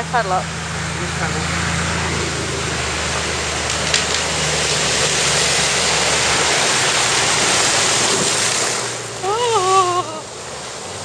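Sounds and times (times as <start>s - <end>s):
rush of white water: 0.0s - 11.0s
water splashing against hull: 0.0s - 11.0s.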